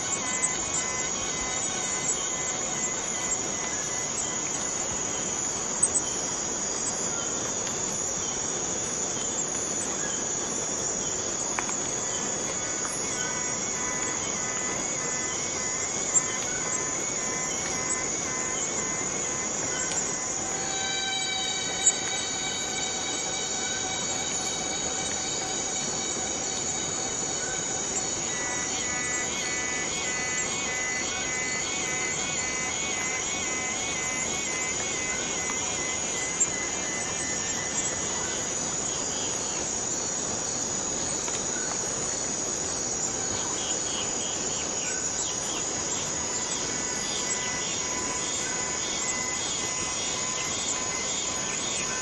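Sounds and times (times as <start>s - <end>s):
cicadas droning: 0.0s - 52.0s.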